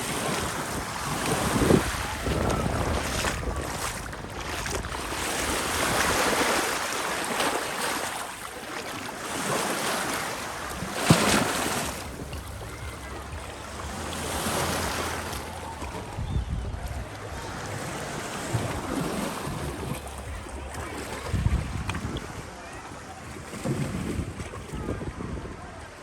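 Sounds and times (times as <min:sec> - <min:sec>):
small waves washing onto beach: 0:00.0 - 0:26.0.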